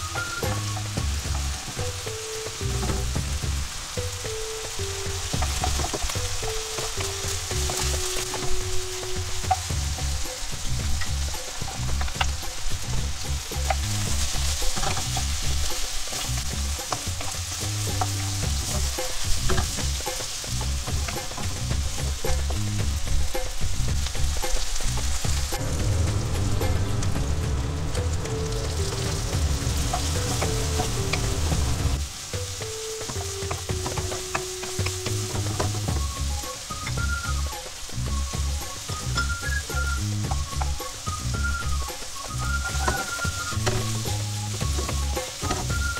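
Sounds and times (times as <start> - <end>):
background music: 0.0 - 45.9
food sizzling in hot oil: 0.0 - 45.9
wooden spatula scraping a pan: 5.0 - 25.8, 28.1 - 45.9.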